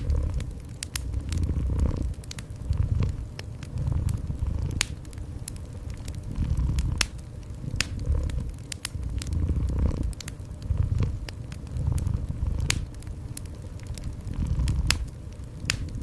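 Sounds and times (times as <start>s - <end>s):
cat purring: 0.0s - 5.2s, 5.9s - 13.0s, 13.8s - 16.0s
wood fire crackling and popping: 0.0s - 16.0s.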